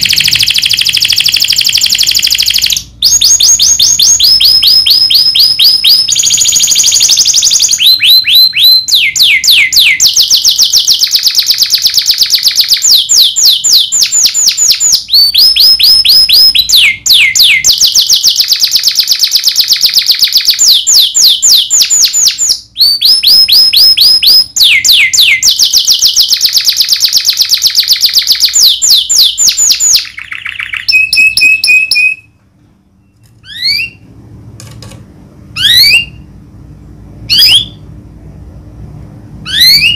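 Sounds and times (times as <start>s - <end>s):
canary singing trills: 0.0s - 32.4s, 33.0s - 34.0s, 35.6s - 36.3s, 37.3s - 37.8s, 39.4s - 39.9s.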